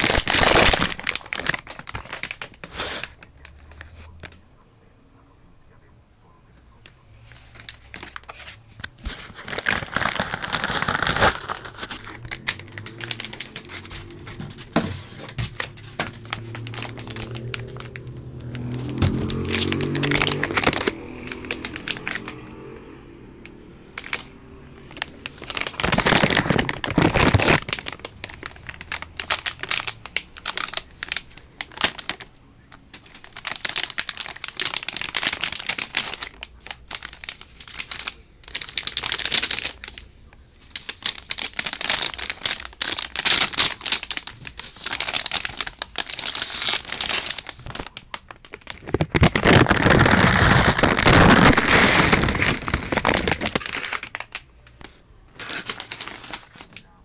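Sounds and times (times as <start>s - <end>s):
plastic bags crinkling: 0.0s - 4.5s, 6.8s - 57.0s.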